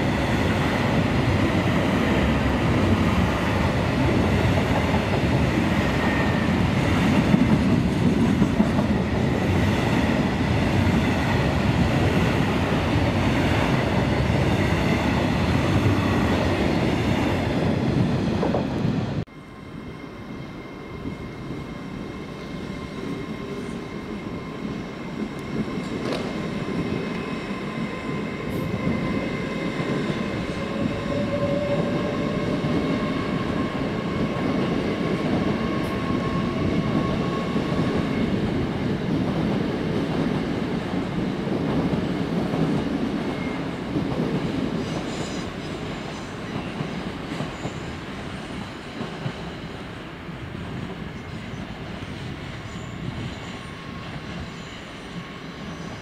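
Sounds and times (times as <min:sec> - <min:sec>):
train rumbling past: 0:00.0 - 0:56.0
train with steady whine: 0:00.0 - 0:56.0.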